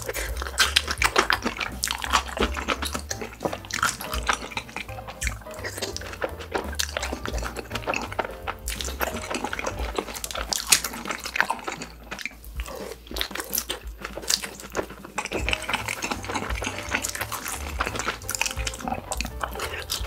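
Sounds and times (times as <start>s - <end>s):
food crunching: 0.0s - 20.0s
mouth chewing food: 0.0s - 20.0s.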